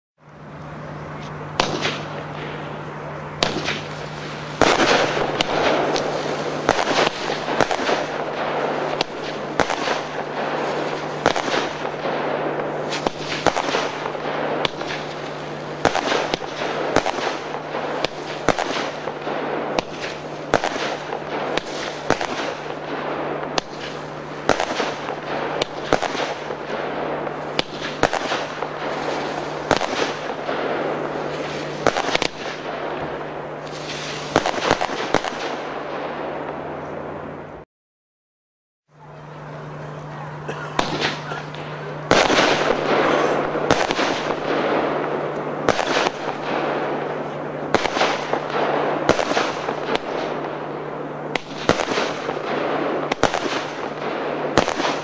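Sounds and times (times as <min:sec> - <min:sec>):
fireworks crackling: 0:00.2 - 0:37.6, 0:39.0 - 0:55.0
fireworks sharp reports: 0:00.2 - 0:37.6, 0:38.9 - 0:55.0.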